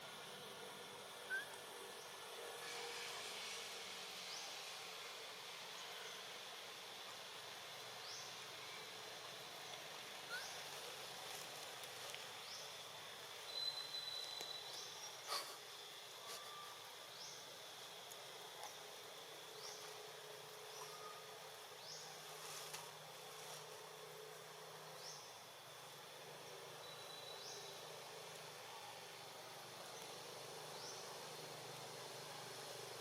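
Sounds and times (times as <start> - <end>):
insects humming: 0.1 - 33.0.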